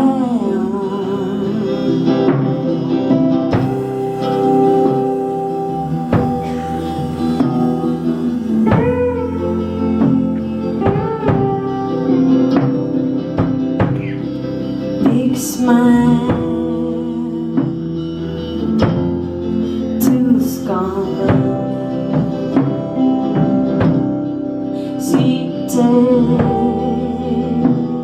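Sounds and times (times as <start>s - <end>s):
guitar and bass: 0.0s - 28.0s
person singing: 0.0s - 28.0s
drum kit: 1.7s - 28.0s.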